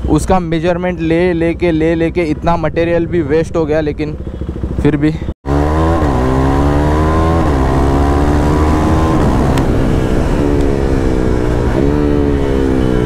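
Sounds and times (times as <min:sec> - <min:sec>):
exhaust crack: 0:00.0 - 0:13.0
motorcycle engine revving: 0:00.0 - 0:13.0.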